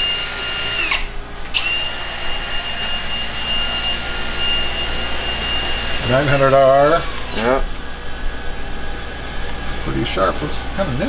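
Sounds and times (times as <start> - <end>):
high-pitched machine whine: 0.0 - 11.0.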